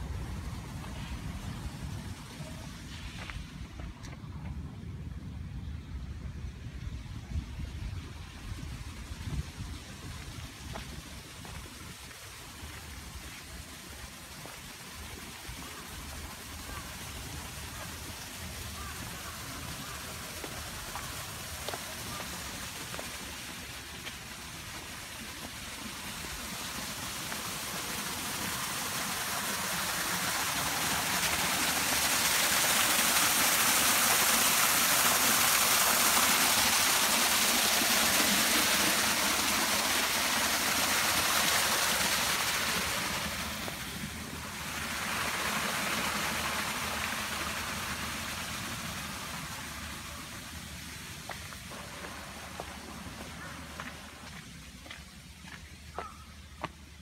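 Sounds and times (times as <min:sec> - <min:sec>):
stream water rushing: 0:08.2 - 0:56.9.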